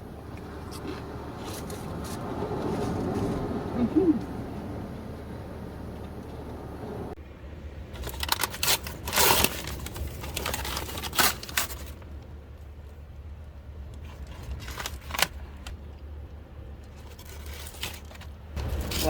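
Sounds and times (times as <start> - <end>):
handling clicks and rustles: 0.0 - 7.2, 7.8 - 19.0.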